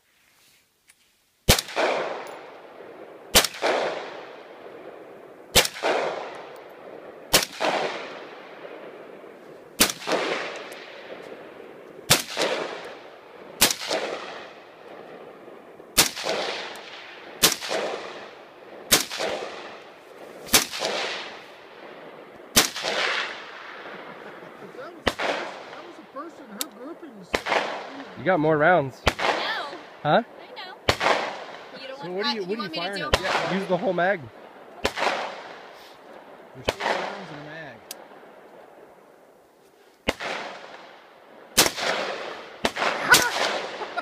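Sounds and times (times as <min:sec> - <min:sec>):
rifle shots echoing: 0:01.5 - 0:28.2, 0:29.0 - 0:38.4, 0:40.0 - 0:44.0.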